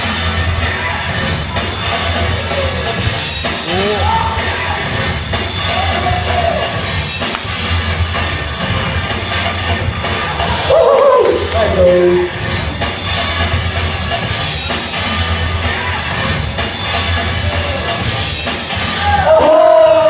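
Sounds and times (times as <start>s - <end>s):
break music over speakers: 0.0s - 20.0s.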